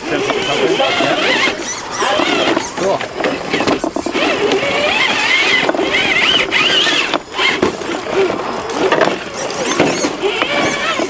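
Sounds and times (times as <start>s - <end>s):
rc truck electric motors whining: 0.0s - 11.0s.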